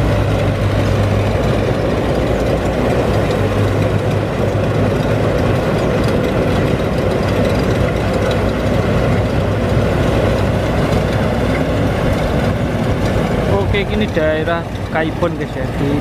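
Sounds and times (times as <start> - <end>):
harvester engine droning: 0.0 - 16.0.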